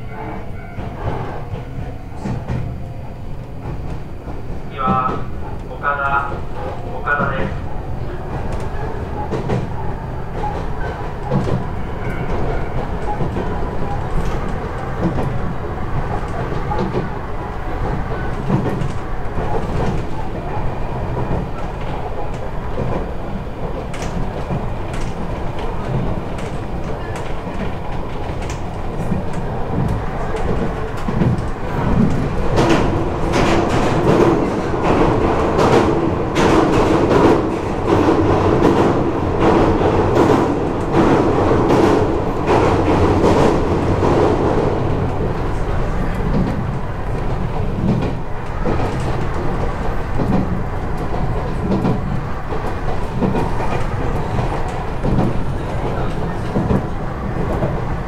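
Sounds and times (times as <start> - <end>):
train rumbling over steel bridge: 0.0 - 58.0
wheels clicking over rail joints: 6.4 - 58.0.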